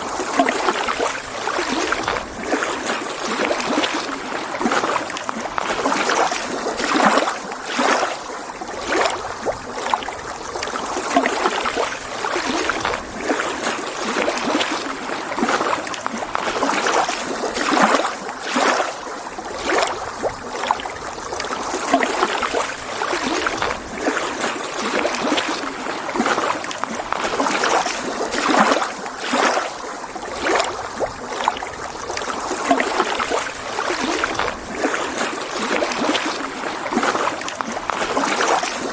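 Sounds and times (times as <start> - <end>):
small water splashes: 0.0 - 38.9
small waves lapping on shore: 0.0 - 38.9.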